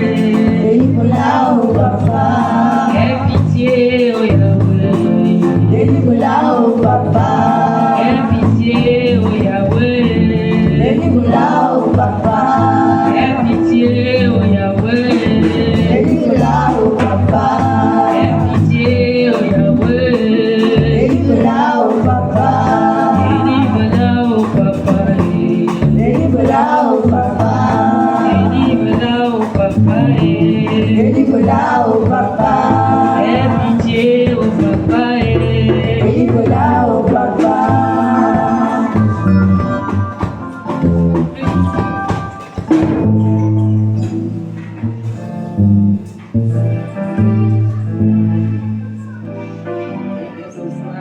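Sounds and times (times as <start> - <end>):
gospel singing with instruments: 0.0 - 51.0.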